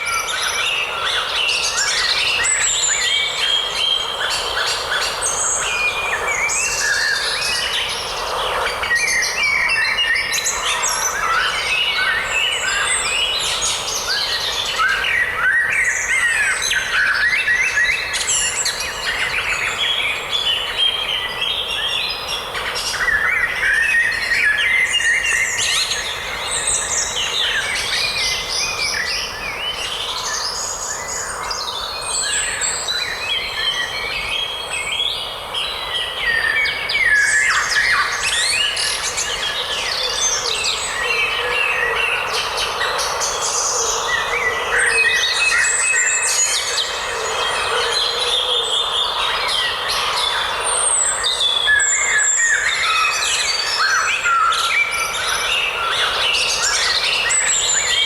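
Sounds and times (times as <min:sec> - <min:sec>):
forest ambience hiss: 0:00.0 - 0:58.0.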